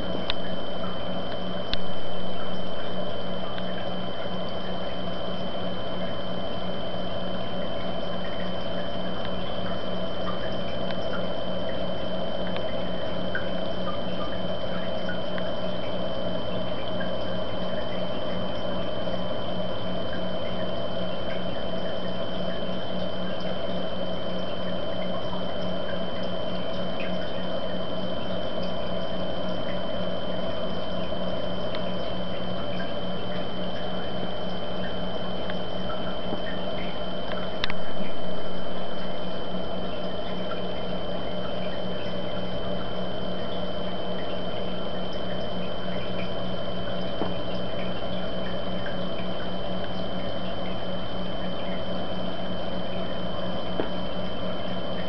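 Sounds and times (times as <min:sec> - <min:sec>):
aquarium water noise: 0:00.0 - 0:55.0
high whine: 0:00.0 - 0:55.0
drip-like ticks: 0:00.2 - 0:55.0.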